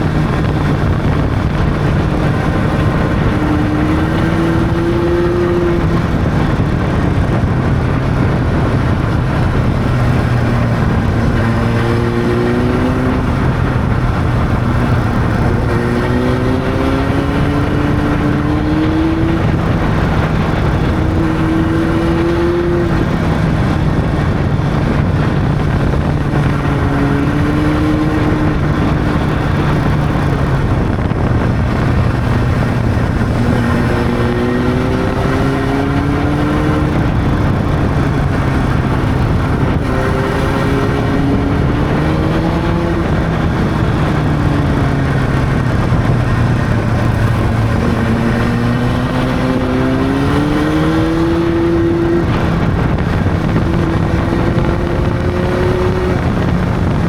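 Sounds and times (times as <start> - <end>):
motorcycle engine accelerating: 0.0 - 57.0
wind and road noise: 0.0 - 57.0.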